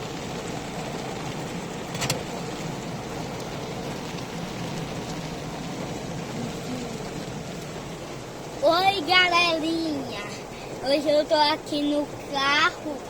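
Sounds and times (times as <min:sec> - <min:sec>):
heavy rain on a car: 0:00.0 - 0:13.0.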